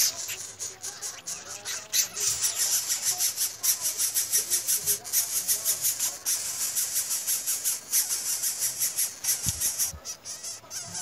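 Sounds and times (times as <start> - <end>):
nestlings begging calls: 0.0 - 11.0.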